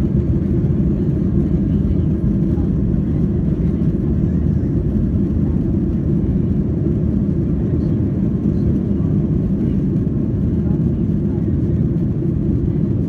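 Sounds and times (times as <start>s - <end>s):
jet engines and wheels rumbling: 0.0s - 13.0s.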